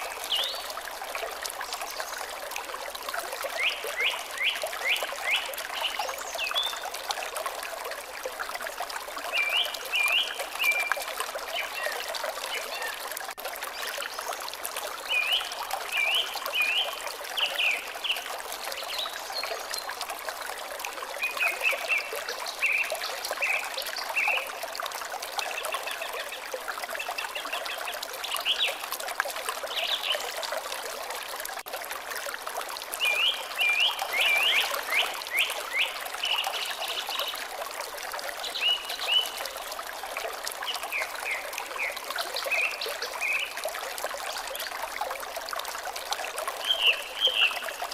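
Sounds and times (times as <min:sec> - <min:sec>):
water trickling: 0:00.0 - 0:47.9.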